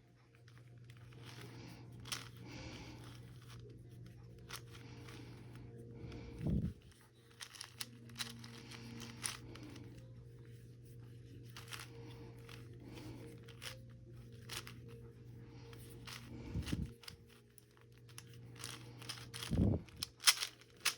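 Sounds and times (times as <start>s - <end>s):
low steady hum: 0.0s - 20.9s
puzzle cube twisting clicks: 0.5s - 5.4s, 6.0s - 10.0s, 11.4s - 15.0s, 15.6s - 20.9s.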